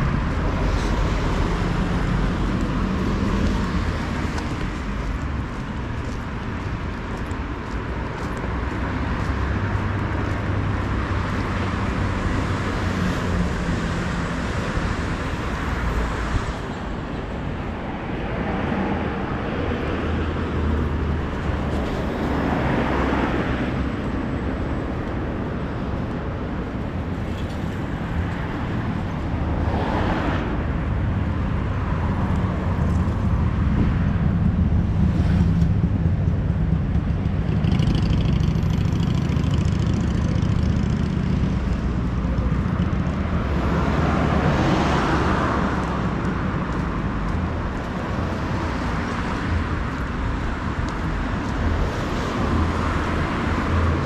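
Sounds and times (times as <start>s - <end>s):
busy street traffic: 0.0s - 54.0s
vehicles passing loudly: 0.0s - 54.0s.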